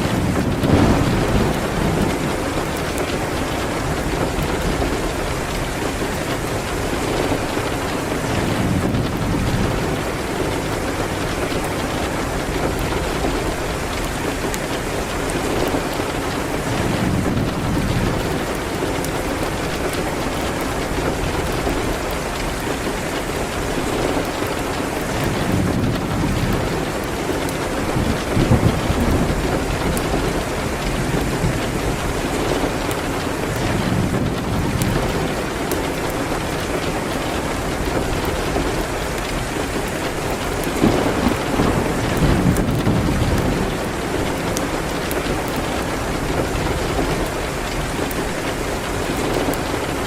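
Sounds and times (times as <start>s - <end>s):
dense rain hiss: 0.0s - 50.0s
wood fire crackling: 0.0s - 50.0s.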